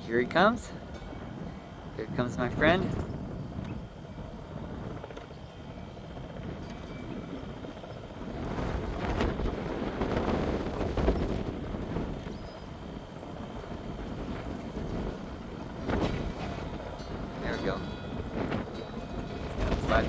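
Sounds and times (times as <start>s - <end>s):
helicopter flying: 0.0s - 20.0s.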